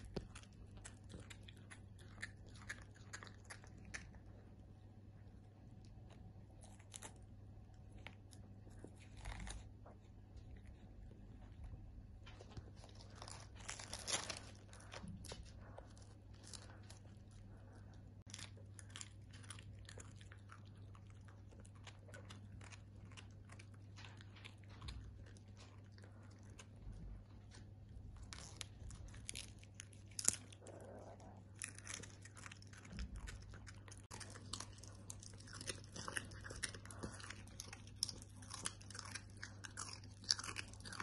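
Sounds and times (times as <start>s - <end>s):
dog chewing and crunching food: 0.0s - 41.0s
steady low hum: 0.0s - 41.0s.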